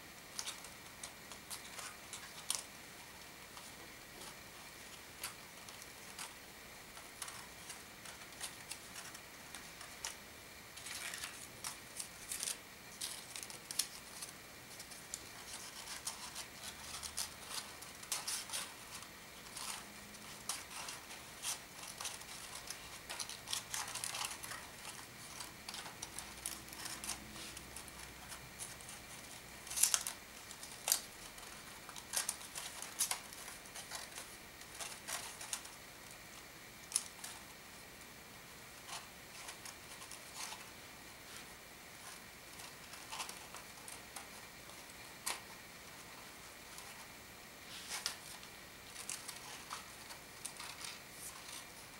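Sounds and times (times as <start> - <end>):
paper rustling and crackling: 0.3 - 37.6, 38.8 - 51.9.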